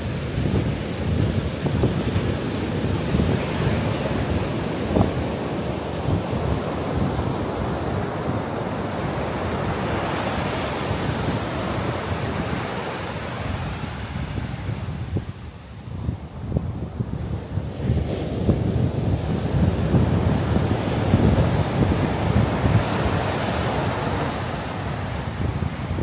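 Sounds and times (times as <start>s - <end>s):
ocean surf breaking on beach: 0.0s - 26.0s
wind buffeting microphone: 0.0s - 26.0s.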